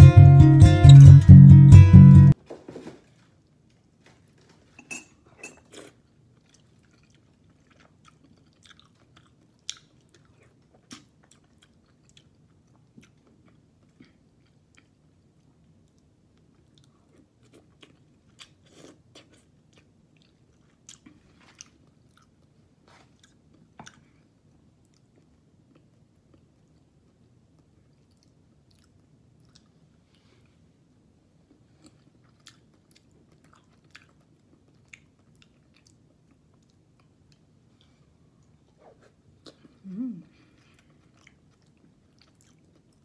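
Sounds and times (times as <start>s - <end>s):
person chewing quietly: 5.6s - 43.0s.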